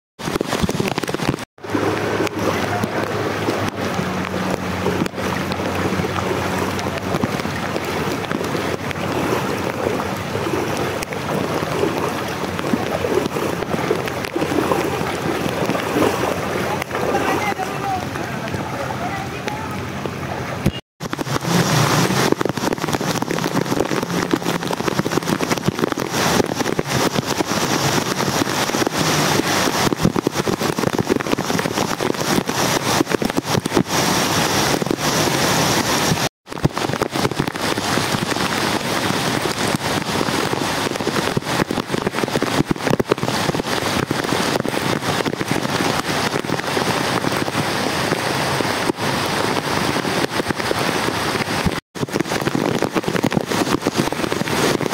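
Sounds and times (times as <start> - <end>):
heavy rain pouring: 0.2 - 54.9.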